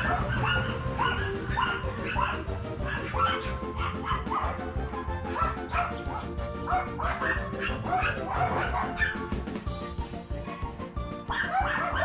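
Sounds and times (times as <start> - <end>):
background music: 0.0 - 12.0
dogs yipping: 0.0 - 12.0.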